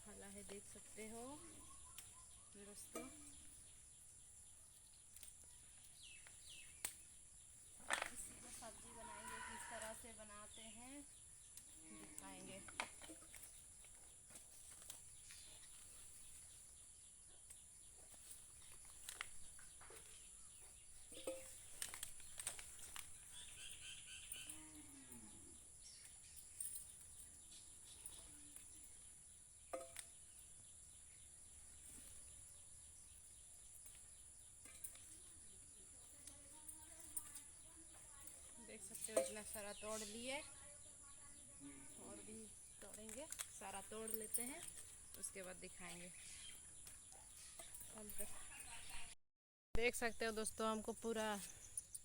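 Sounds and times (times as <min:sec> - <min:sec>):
bird chirp: 0:00.0 - 0:49.2, 0:49.8 - 0:52.0.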